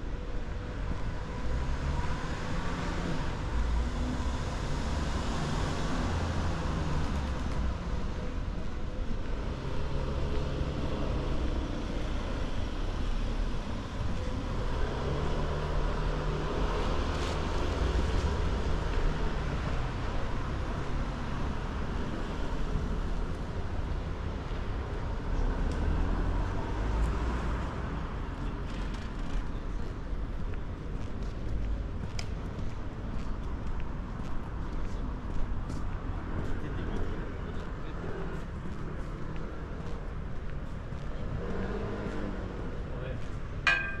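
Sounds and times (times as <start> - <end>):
city traffic rumble: 0.0 - 44.0.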